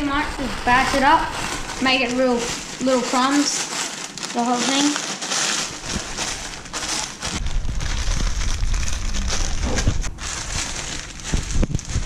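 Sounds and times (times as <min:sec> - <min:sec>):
bag crinkling and crackling: 0:00.0 - 0:12.0.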